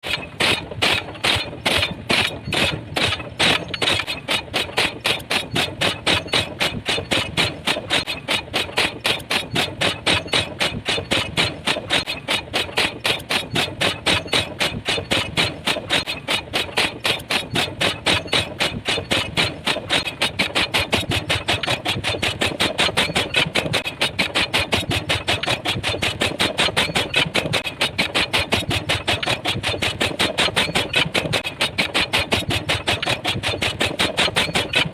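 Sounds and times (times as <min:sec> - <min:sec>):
pile driver hammer pounding: 0:00.0 - 0:34.9.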